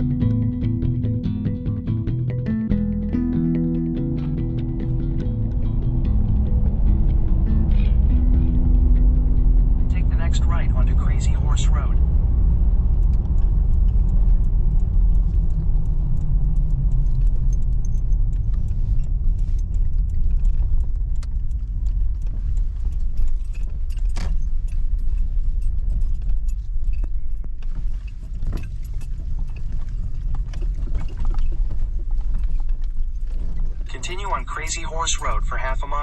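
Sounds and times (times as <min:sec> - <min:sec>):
road and engine rumble in car: 0:00.0 - 0:36.0.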